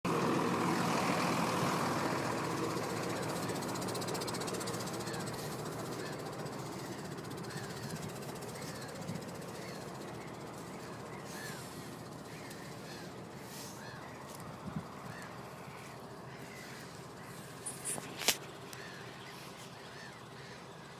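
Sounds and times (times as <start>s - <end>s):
tractor engine running: 0.0s - 20.9s
birds calling: 0.1s - 20.9s.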